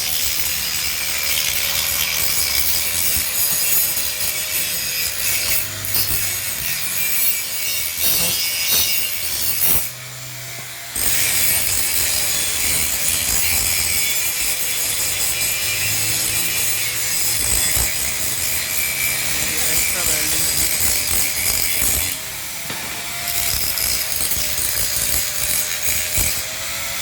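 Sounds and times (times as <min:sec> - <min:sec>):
metal being cut or ground: 0:00.0 - 0:27.0.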